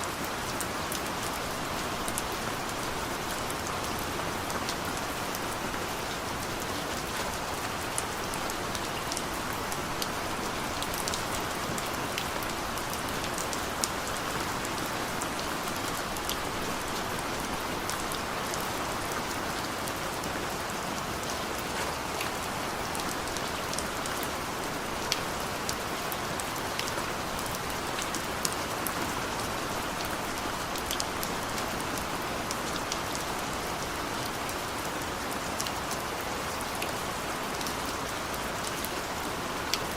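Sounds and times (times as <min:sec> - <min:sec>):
raindrops tapping nearby surfaces: 0:00.0 - 0:39.9.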